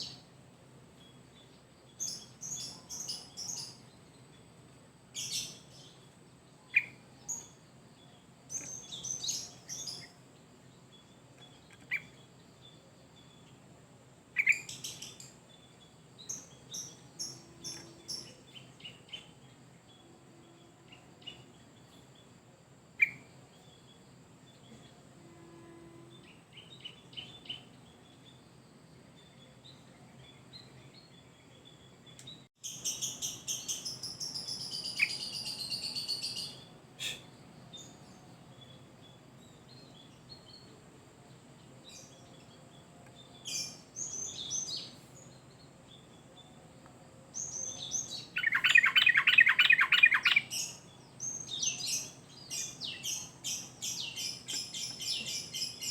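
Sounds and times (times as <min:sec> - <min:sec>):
bird calls and song: 0:00.0 - 0:55.9.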